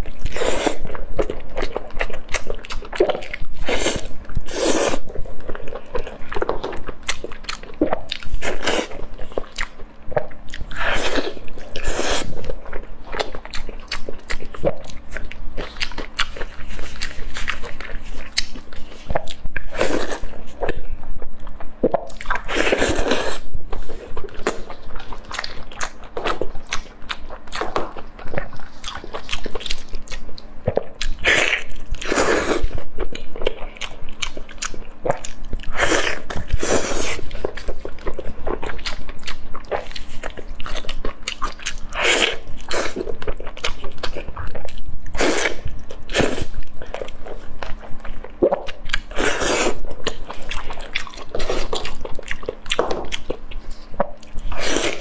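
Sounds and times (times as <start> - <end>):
wet chewing and biting: 0.0 - 55.0.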